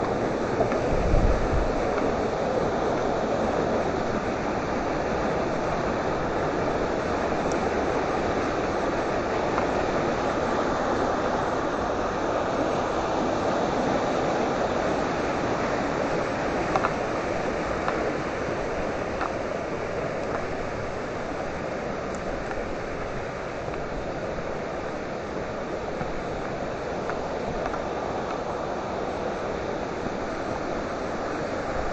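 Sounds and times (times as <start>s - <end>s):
river rapids rushing: 0.0s - 31.9s.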